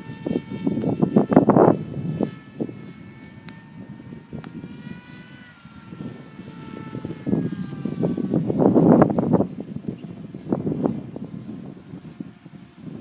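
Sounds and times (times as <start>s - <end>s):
electric motor and propeller whining: 0.0s - 13.0s
wind buffeting microphone: 0.0s - 13.0s.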